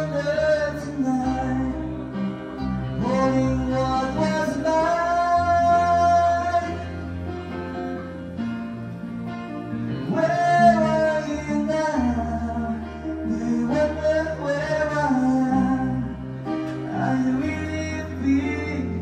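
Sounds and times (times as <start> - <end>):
man singing into a microphone: 0.0 - 7.4, 10.0 - 19.0
acoustic guitar: 0.0 - 19.0
electronic keyboard: 0.0 - 19.0.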